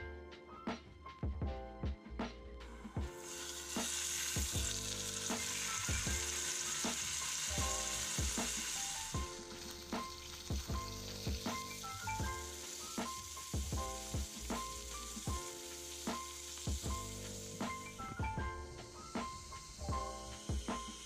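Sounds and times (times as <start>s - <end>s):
beat-driven music: 0.0s - 21.0s
fish sizzling in hot oil: 3.0s - 21.0s.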